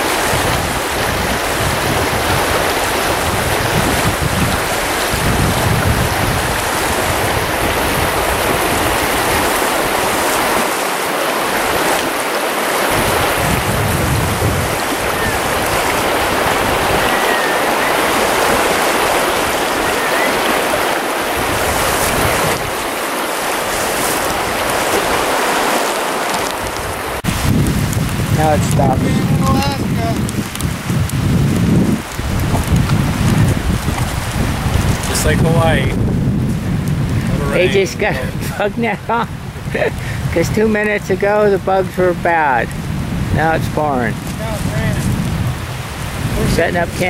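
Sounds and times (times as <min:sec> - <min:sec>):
creek rushing over riffles: 0:00.0 - 0:47.0
wind buffeting microphone: 0:00.0 - 0:47.0.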